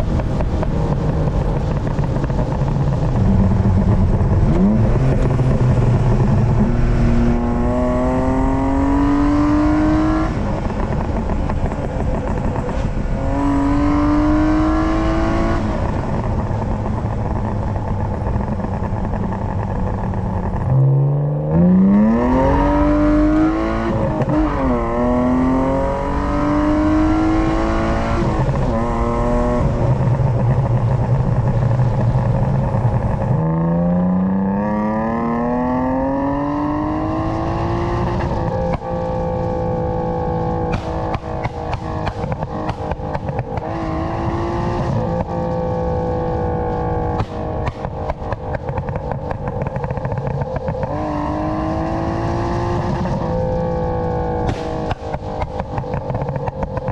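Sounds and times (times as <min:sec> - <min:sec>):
car engine accelerating through gears: 0:00.0 - 0:56.9.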